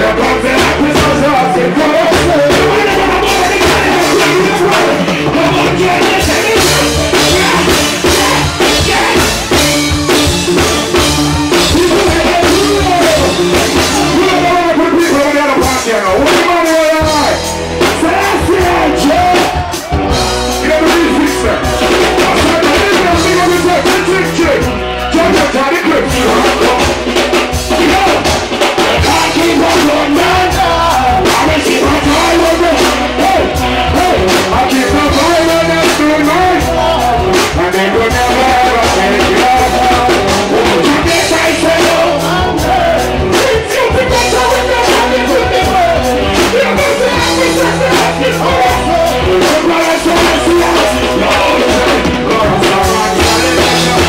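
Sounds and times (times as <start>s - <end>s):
live reggae band playing: 0.0s - 54.0s
man singing into microphone: 0.0s - 54.0s.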